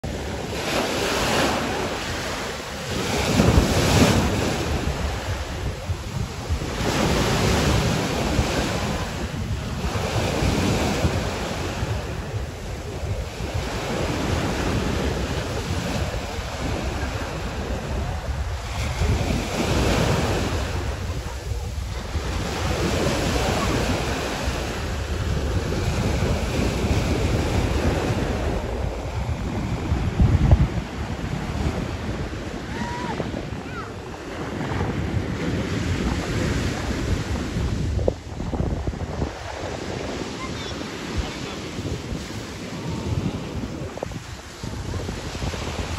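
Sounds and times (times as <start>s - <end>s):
wind rumbling on microphone: 0.0s - 45.9s.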